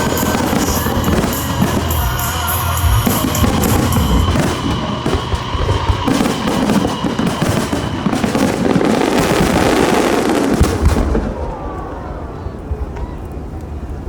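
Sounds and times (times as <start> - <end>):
fireworks crackling: 0.0 - 11.6
deep fireworks booms: 0.0 - 12.0.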